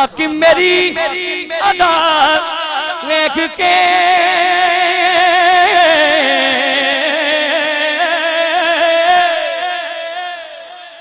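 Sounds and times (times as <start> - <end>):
man singing long note: 0.0 - 11.0.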